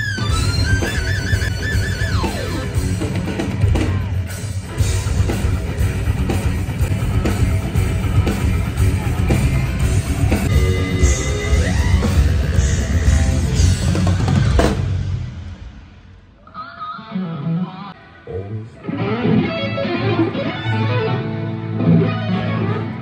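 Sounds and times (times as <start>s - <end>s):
rock band playing: 0.0s - 18.0s, 18.8s - 23.0s
guitar lead line rising: 0.0s - 23.0s.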